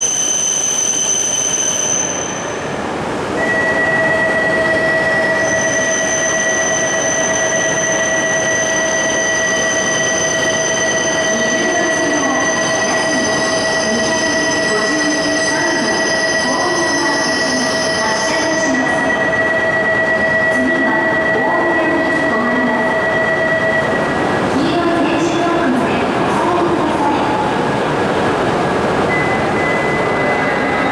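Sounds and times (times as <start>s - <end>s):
train running noise: 0.1s - 30.9s.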